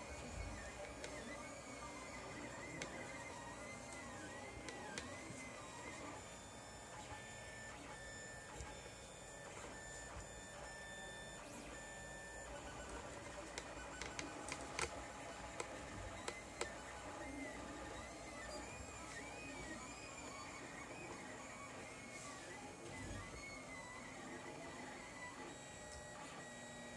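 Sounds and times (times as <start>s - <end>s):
three-d printer stepper motors whining: 0.0s - 26.9s.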